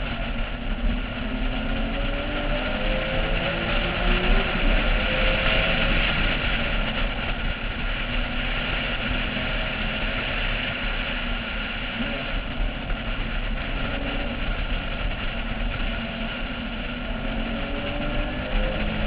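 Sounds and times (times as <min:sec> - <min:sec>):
car engine revving: 0:00.0 - 0:19.0
wind rush over microphone: 0:00.0 - 0:19.0.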